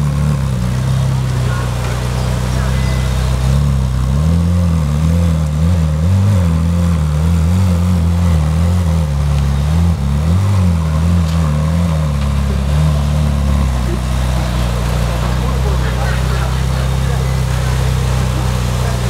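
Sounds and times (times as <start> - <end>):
car engine at low revs: 0.0 - 19.0.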